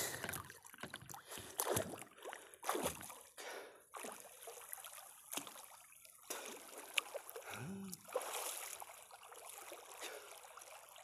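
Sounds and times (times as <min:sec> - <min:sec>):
water splashing from swimming: 0:00.0 - 0:11.0.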